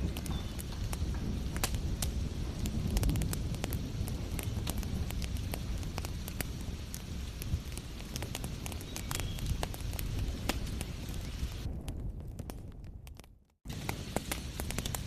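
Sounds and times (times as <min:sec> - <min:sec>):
rain hiss: 0:00.0 - 0:11.7, 0:13.7 - 0:15.0
wood fire crackling: 0:00.0 - 0:15.0.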